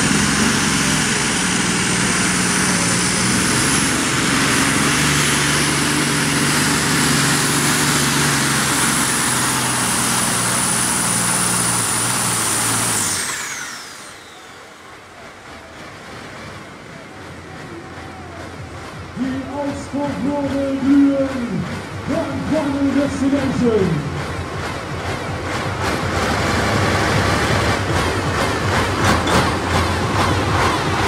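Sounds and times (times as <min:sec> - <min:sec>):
tractor engine running flat out: 0:00.0 - 0:31.0.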